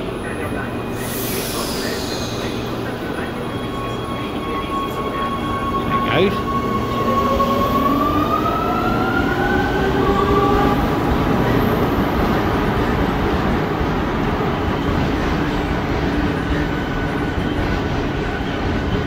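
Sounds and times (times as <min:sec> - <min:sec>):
rumble of wheels on rail: 0:00.0 - 0:19.0.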